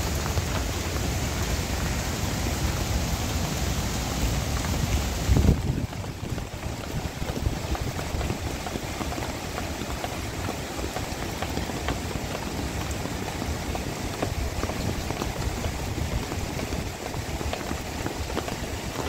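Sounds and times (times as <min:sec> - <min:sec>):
raindrops ticking: 0:00.0 - 0:19.0
steady rain: 0:00.0 - 0:19.0.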